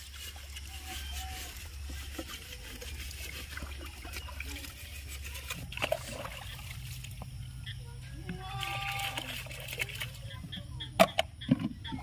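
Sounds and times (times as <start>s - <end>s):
water sloshing and dribbling: 0.0s - 12.0s.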